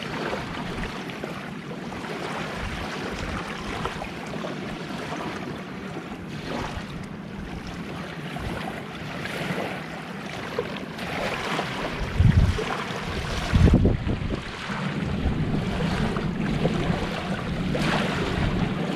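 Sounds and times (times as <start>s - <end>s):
small waves washing ashore: 0.0s - 18.9s.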